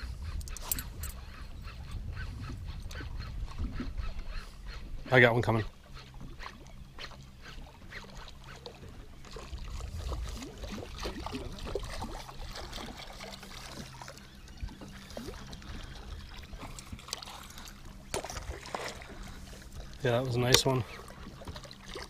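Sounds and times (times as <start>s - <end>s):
low steady hum: 0.0s - 22.0s
small waves lapping against boat: 0.0s - 22.0s.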